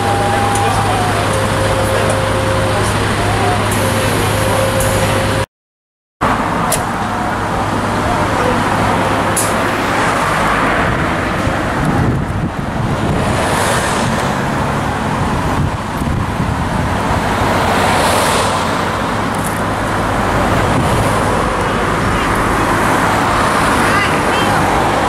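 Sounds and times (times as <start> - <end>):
lorry diesel engine running: 0.0 - 5.5, 6.2 - 25.0.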